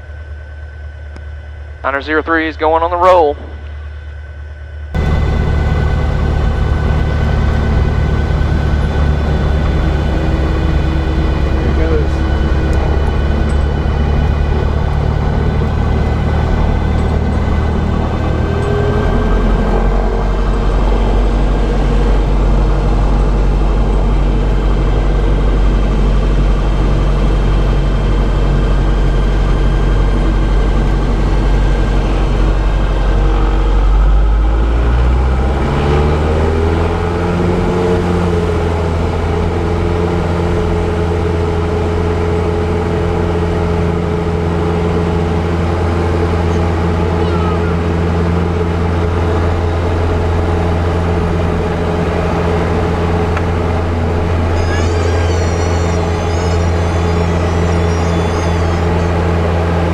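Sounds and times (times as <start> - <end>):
aircraft engine and propeller: 0.0 - 59.9.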